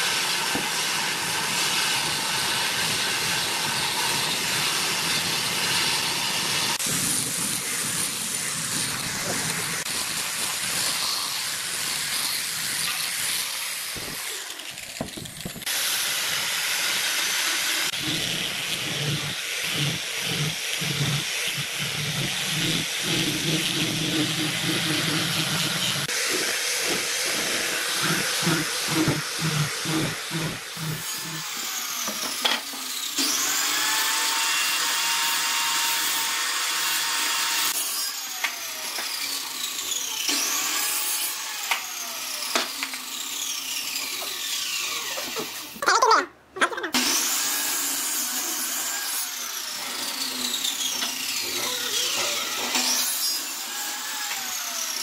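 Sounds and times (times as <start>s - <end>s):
power tools cutting wood: 0.0s - 45.9s, 46.9s - 55.0s.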